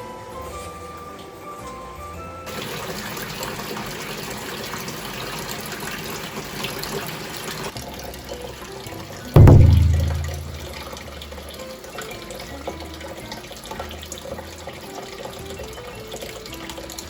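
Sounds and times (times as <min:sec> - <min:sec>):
water running from a tap: 0:02.5 - 0:17.0.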